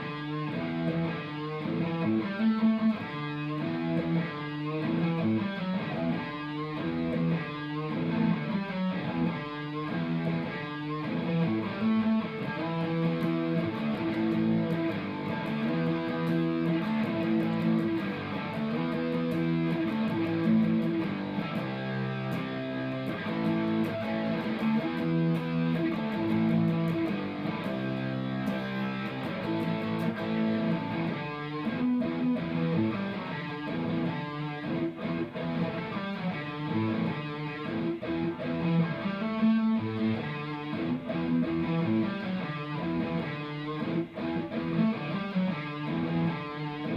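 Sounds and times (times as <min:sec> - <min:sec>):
electric guitar chords strummed: 0:00.0 - 0:46.9.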